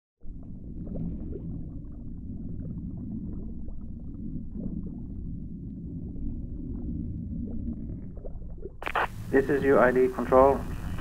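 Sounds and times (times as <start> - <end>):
low underwater rumble: 0.2 - 11.0.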